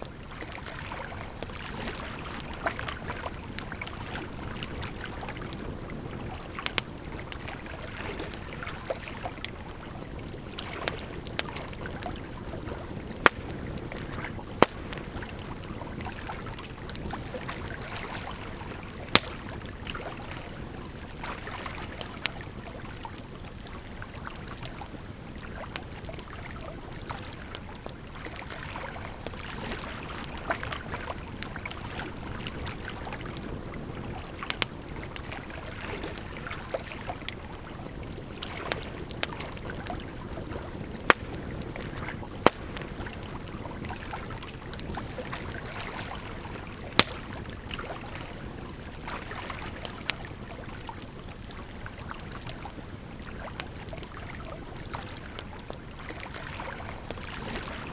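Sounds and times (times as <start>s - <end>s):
firewood crackling and popping: 0.0s - 57.9s.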